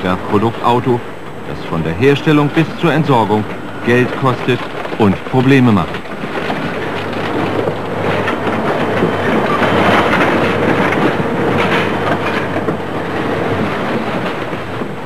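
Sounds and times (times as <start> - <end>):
faint steady whine: 0.0 - 15.0
metal clattering and scraping: 2.3 - 15.0.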